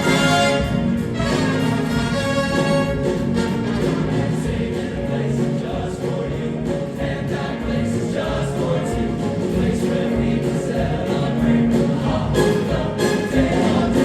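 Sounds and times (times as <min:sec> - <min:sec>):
choir singing held notes: 0:00.0 - 0:14.0.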